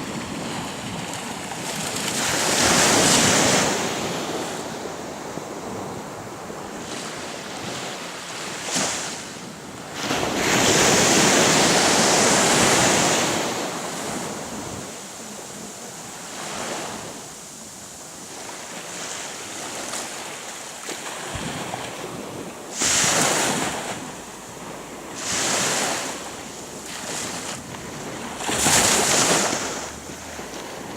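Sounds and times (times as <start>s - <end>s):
wind buffeting microphone: 0.0s - 20.1s, 21.1s - 30.9s
sea waves washing ashore: 0.0s - 30.9s.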